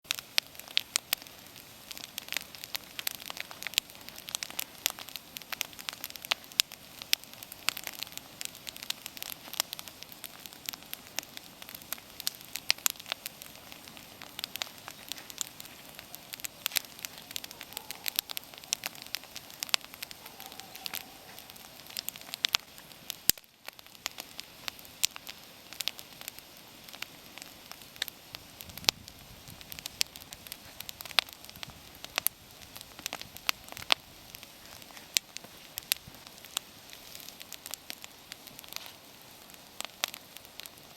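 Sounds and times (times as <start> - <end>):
bonfire crackling: 0.0 - 40.9
hiss of burning: 0.1 - 40.9.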